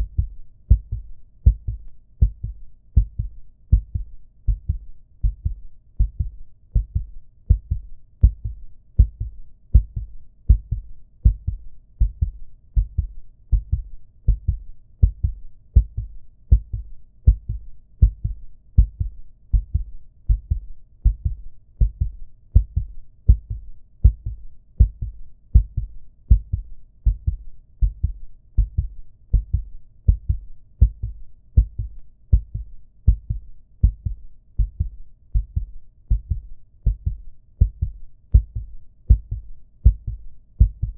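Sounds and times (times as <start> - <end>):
heartbeat thumping: 0.0 - 40.9.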